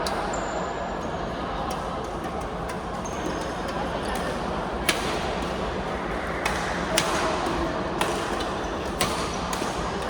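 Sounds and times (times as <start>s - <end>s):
crowd hubbub: 0.0s - 10.0s.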